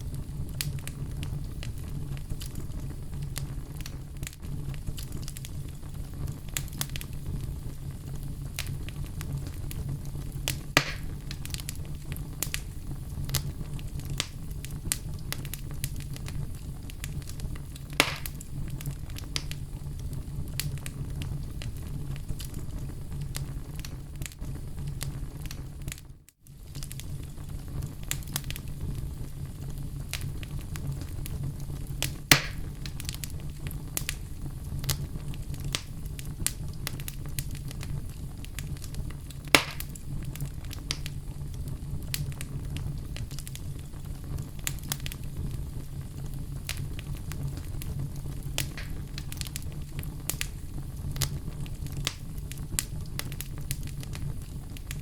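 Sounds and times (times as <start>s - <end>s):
fire crackling and popping: 0.0s - 55.0s
fire flames rumbling: 0.0s - 55.0s.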